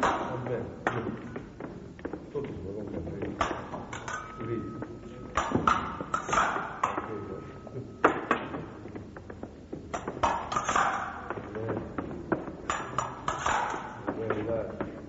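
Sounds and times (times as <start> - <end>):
fencing blades clashing: 0.0 - 2.6, 3.2 - 15.0.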